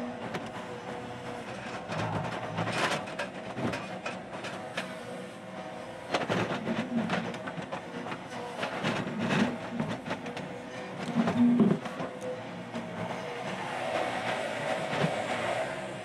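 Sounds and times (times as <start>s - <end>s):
excavator engine and hydraulic hum: 0.0s - 16.0s.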